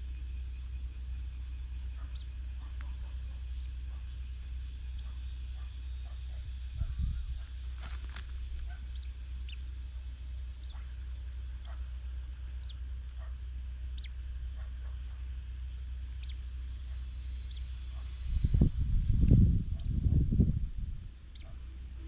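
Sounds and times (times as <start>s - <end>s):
bird chirping: 0.0s - 18.7s, 21.1s - 22.0s
steady low rumble: 0.0s - 22.0s.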